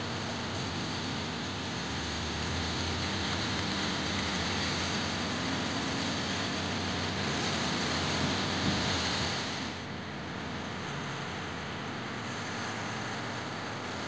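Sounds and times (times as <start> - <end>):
cars on wet road: 0.0 - 14.0.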